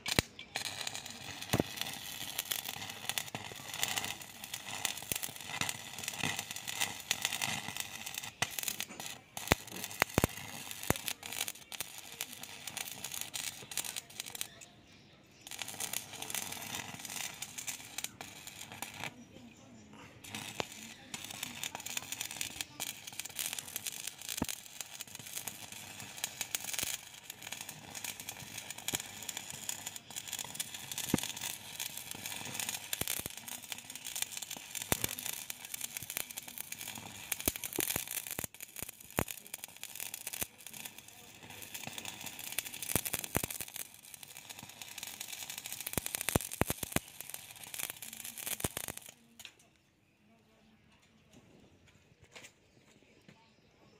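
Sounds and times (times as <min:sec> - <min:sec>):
welding arc crackling and popping: 0:00.0 - 0:49.8.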